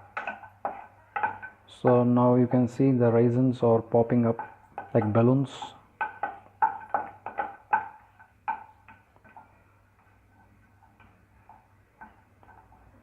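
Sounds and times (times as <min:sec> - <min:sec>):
nuts sizzling and popping in pan: 0:00.0 - 0:13.0.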